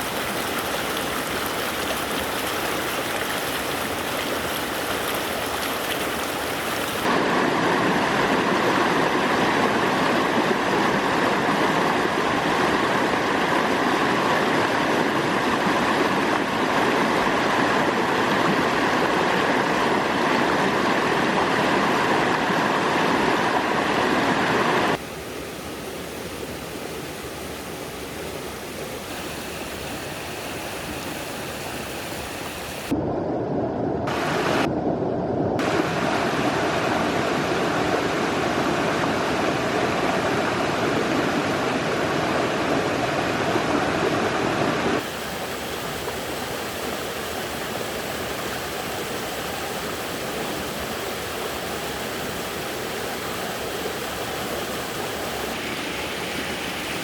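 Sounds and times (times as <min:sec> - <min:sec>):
stream water rushing: 0:00.0 - 0:33.0, 0:34.1 - 0:34.7, 0:35.6 - 0:57.0.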